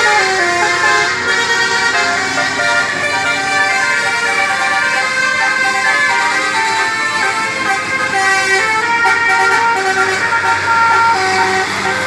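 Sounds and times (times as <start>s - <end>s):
musical air horns playing a tune: 0.0s - 12.0s.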